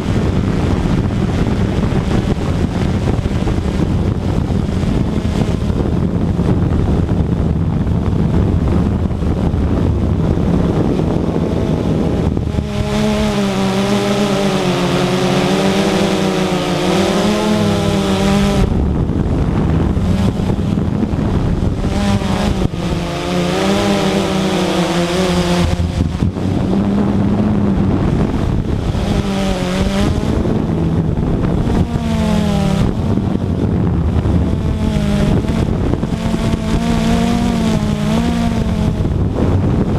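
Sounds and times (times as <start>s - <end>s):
model aircraft motor passing: 0.0s - 39.9s
wind rumble on microphone: 0.0s - 39.9s.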